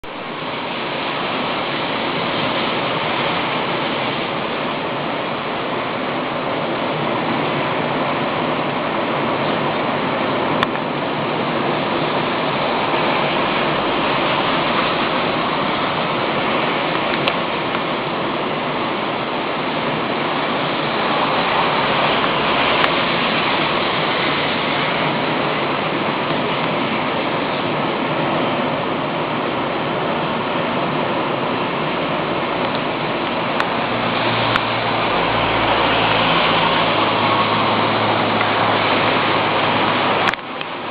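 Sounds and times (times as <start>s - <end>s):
waves breaking on rocks: 0.0s - 40.9s.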